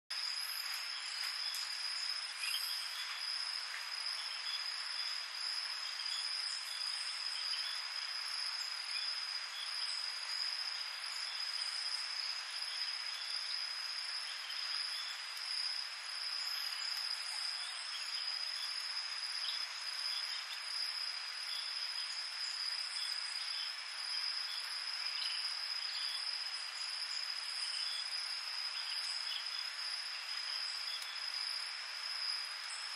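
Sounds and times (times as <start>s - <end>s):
cricket trill: 0.1s - 32.9s
hiss of many insects: 0.2s - 32.9s.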